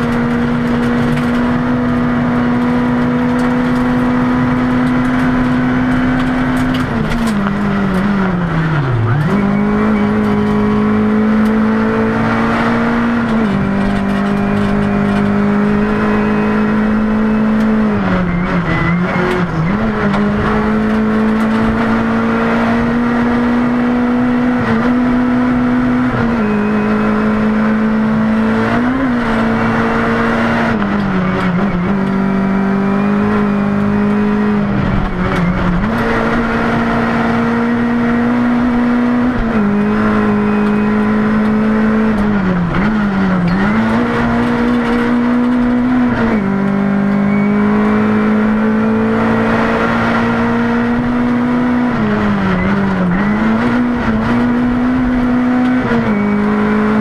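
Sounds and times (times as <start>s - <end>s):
gravel and road noise: 0.0s - 57.0s
rally car engine at full throttle: 0.0s - 57.0s.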